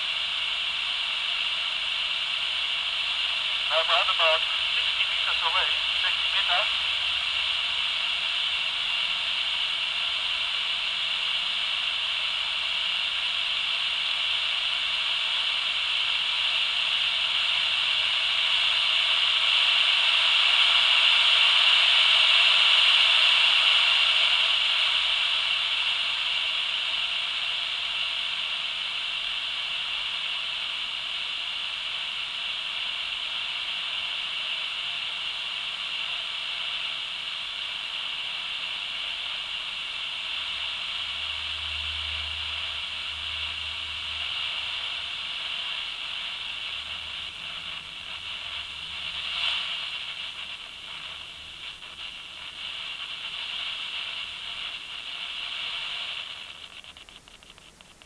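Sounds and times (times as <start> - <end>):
walkie-talkie static hiss: 0.0 - 58.0.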